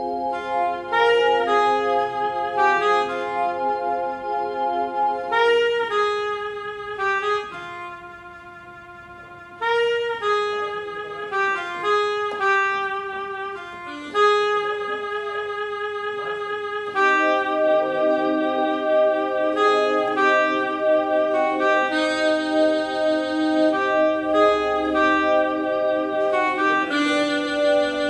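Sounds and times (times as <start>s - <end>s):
digital keyboard melody: 0.0s - 8.3s, 10.0s - 28.0s.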